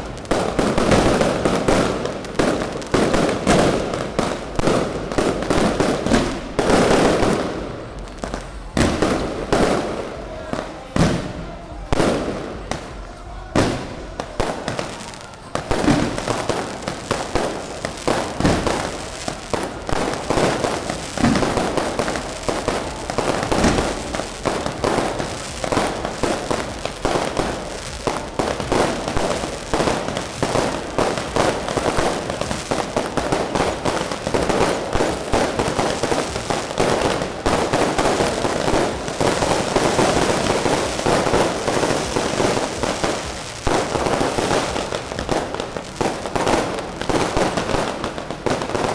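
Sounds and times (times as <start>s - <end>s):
firecrackers crackling: 0.0s - 48.9s
heavy firework booms: 0.0s - 48.9s.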